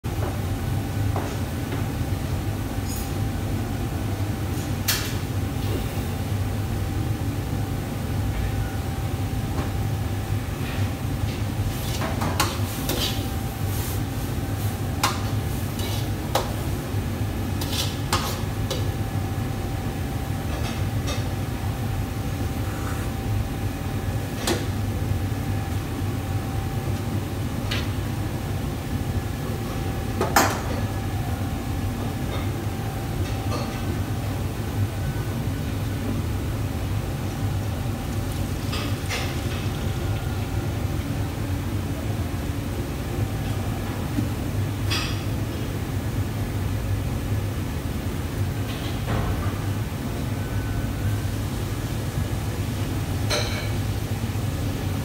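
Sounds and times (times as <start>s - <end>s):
low rumble of wok range: 0.0s - 55.0s.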